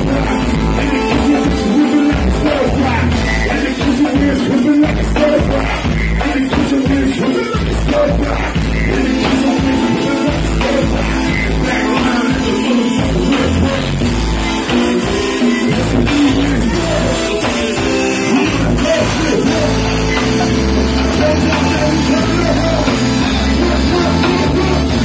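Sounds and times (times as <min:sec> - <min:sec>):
drum kit: 0:00.0 - 0:25.0
guitar: 0:00.0 - 0:25.0
live rock band playing: 0:00.0 - 0:25.0
person singing into microphone: 0:00.0 - 0:25.0.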